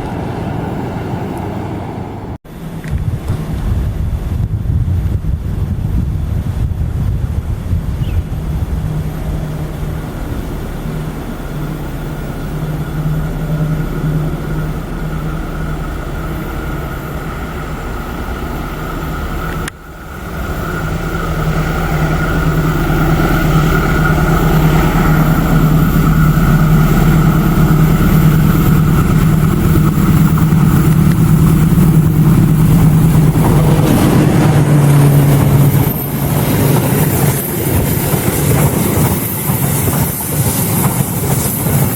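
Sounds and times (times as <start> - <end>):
diesel locomotive engine droning: 0.0 - 41.9.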